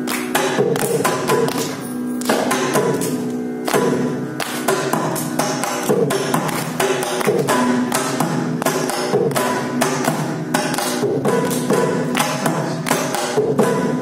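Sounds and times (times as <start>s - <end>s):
mridangam drum strokes: 0.2s - 14.0s.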